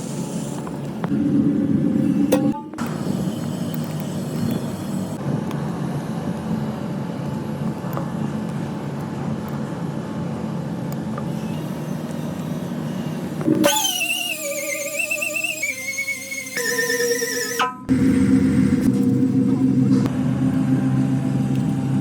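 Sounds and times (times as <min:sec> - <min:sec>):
low mechanical drone: 0:00.0 - 0:22.0.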